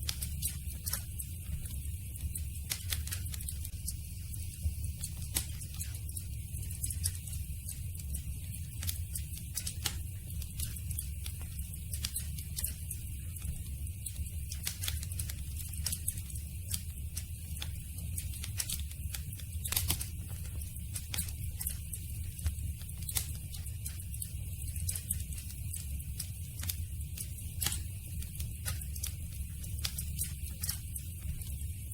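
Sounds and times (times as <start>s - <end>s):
wood crackling and popping: 0.0s - 31.9s
low rumble of flames: 0.1s - 31.9s.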